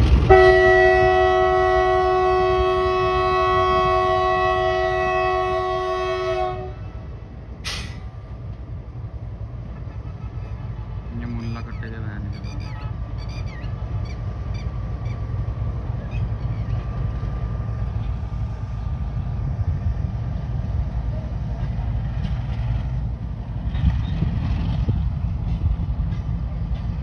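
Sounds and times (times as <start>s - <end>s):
diesel locomotive rumble: 0.0s - 27.0s.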